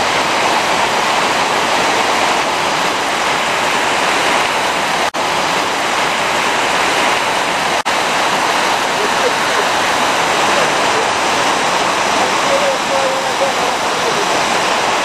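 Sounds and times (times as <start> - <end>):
waterfall roar: 0.0 - 15.0.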